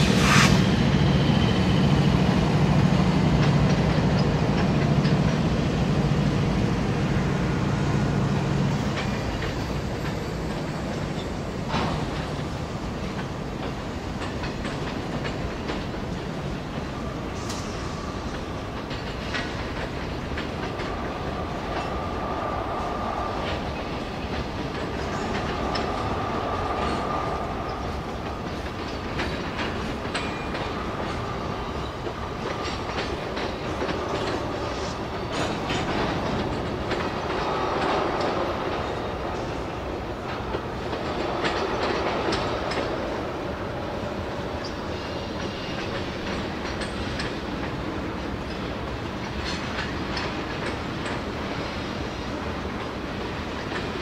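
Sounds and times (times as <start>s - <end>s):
freight train rumbling past: 0.0s - 54.0s
wheels clicking over rail joints: 2.9s - 6.4s, 8.0s - 54.0s.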